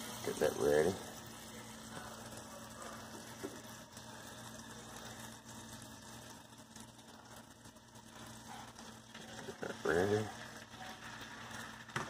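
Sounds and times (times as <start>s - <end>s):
grease sizzling on a griddle: 0.0s - 12.0s.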